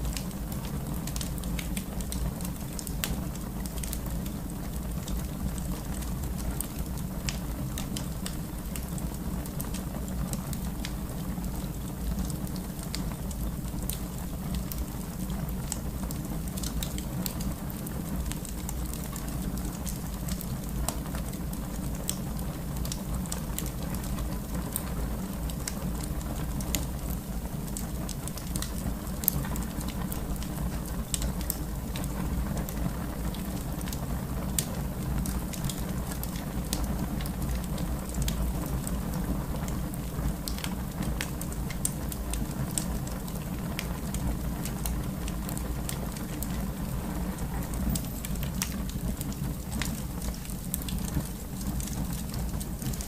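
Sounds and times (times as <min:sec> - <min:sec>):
fire crackling and popping: 0:00.0 - 0:53.0
fireplace fire rumbling: 0:00.0 - 0:53.0.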